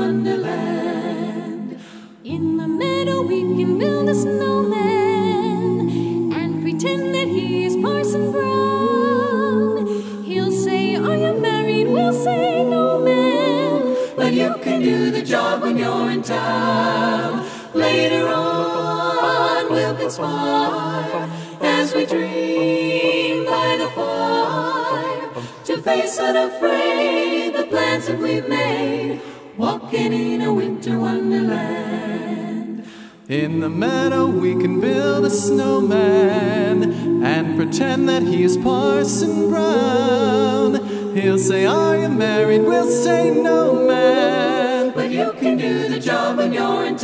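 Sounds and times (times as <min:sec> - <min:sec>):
group singing a cappella: 0:00.0 - 0:47.0.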